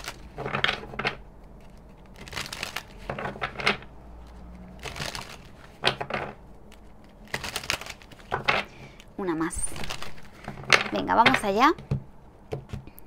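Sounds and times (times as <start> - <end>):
cards being shuffled: 0.0 - 13.0.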